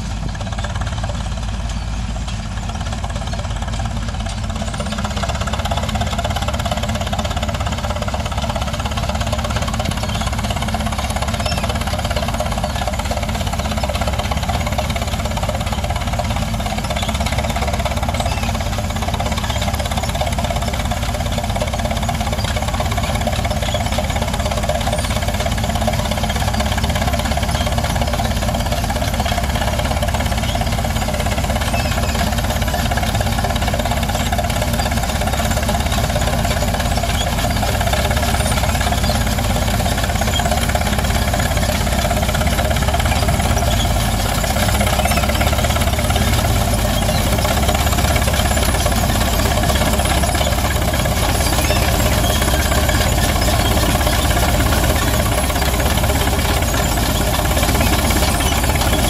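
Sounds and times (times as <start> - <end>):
tractor engine under load: 0.0 - 59.0.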